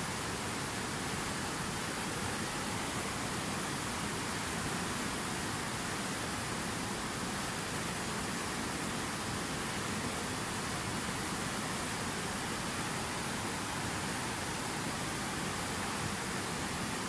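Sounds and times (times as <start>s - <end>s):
river rushing through rapids: 0.0s - 17.0s.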